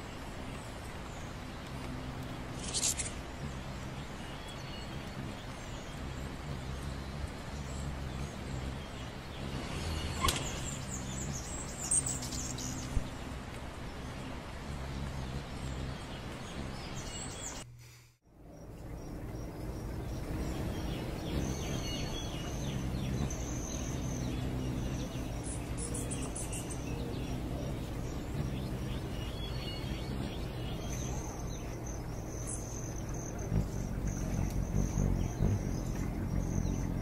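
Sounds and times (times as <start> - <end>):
birds chirping with high trills: 0.0 - 17.7, 18.3 - 37.0
outdoor ambience: 0.0 - 37.0.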